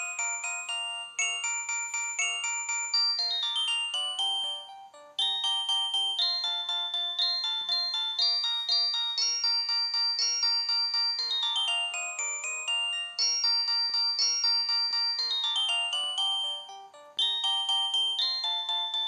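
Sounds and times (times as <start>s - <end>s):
polyphonic phone ringtone melody: 0.0s - 19.0s.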